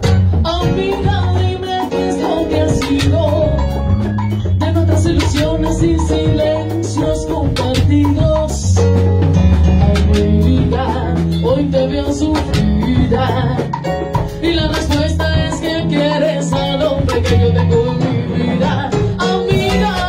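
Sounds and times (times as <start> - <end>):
salsa band playing: 0.0 - 20.0
woman singing: 0.3 - 3.9, 4.6 - 20.0.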